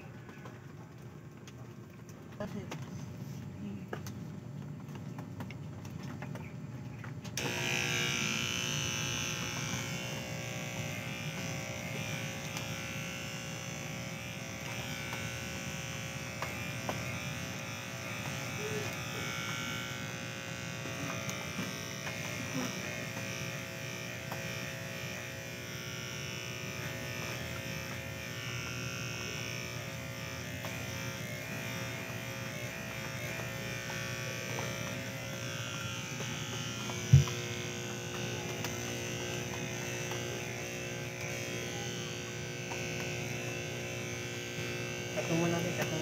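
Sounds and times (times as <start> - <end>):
electric hair clippers buzzing: 0.0 - 1.6, 7.1 - 46.0.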